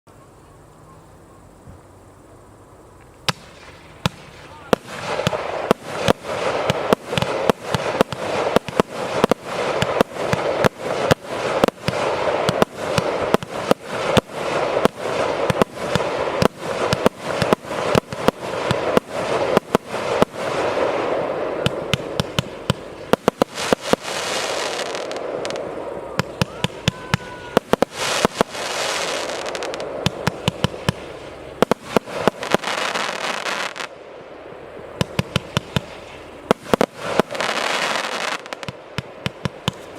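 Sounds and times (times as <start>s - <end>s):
fireworks hissing crackle: 0.0s - 39.9s
fireworks launches and bursts: 2.9s - 39.9s.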